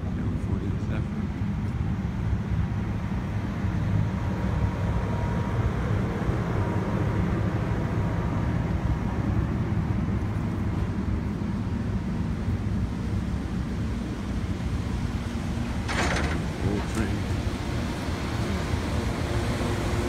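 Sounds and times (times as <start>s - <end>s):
train equipment rumble and hiss: 0.0s - 20.0s.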